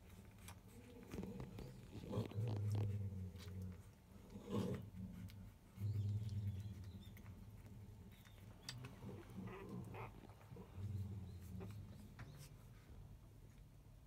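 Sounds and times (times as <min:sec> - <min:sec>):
puppies grunting: 0:00.0 - 0:12.8.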